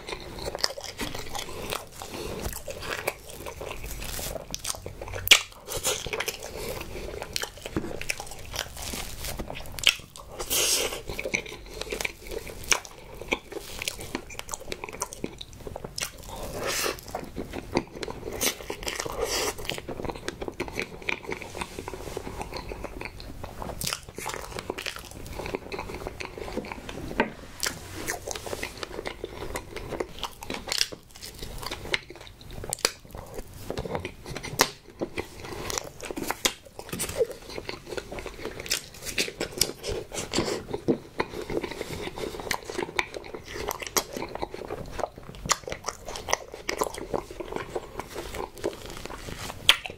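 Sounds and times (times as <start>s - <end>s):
chewing and mouth sounds: 0.0s - 49.9s.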